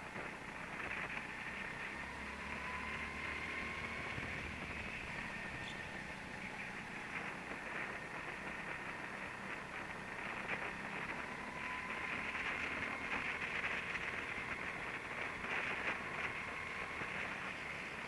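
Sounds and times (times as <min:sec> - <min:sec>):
go-kart engine drone with whine: 0:00.0 - 0:18.0.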